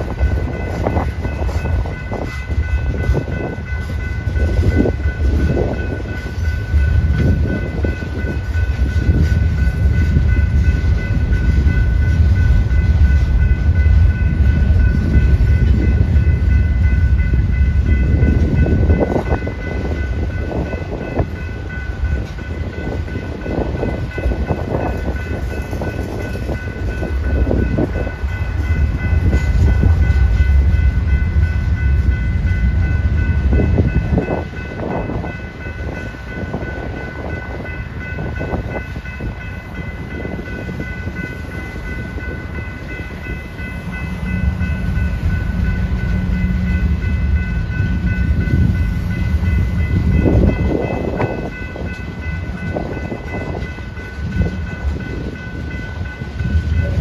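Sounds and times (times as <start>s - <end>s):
freight train wheels rumbling: 0.0s - 57.0s
high ringing tone: 0.0s - 57.0s.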